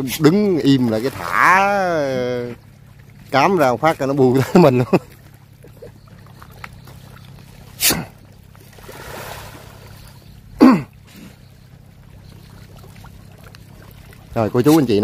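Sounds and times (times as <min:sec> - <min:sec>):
fish splashing at pond surface: 0:00.0 - 0:15.0.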